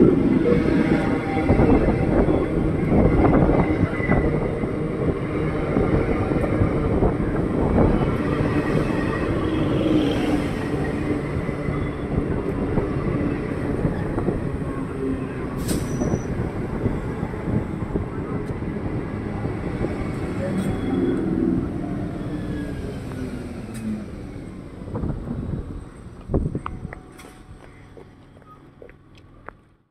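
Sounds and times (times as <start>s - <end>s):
train wheels rumbling on track: 0.0s - 29.7s.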